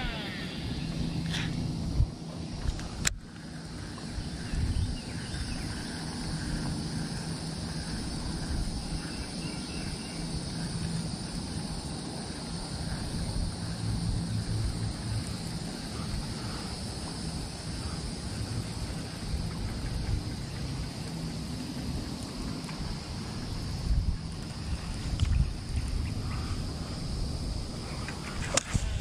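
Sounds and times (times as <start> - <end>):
high insect buzz: 0.0 - 29.0
wind rumble on microphone: 0.0 - 29.0.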